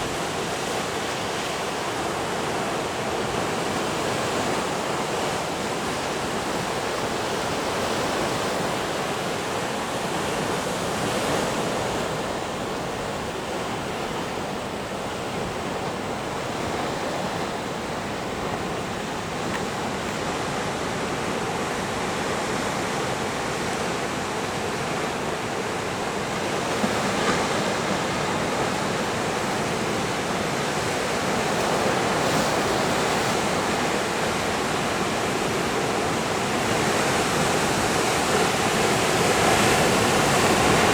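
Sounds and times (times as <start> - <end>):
ocean surf breaking: 0.0 - 40.9.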